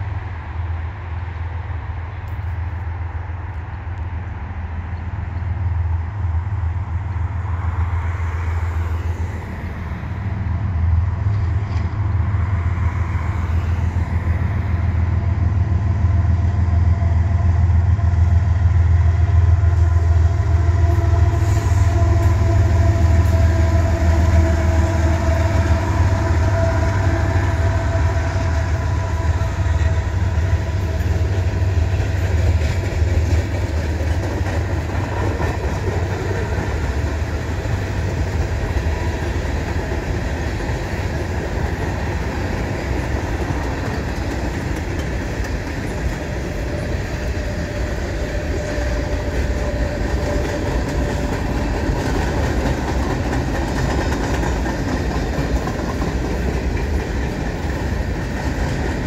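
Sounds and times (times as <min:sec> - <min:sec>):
diesel locomotive rumble: 0:00.0 - 0:59.0
wheels on rail: 0:00.0 - 0:59.0.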